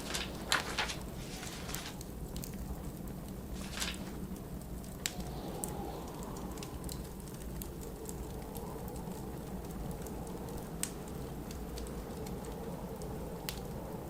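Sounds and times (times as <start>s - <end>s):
blizzard wind rumble: 0.0s - 14.0s
wood fire crackling: 0.0s - 14.0s.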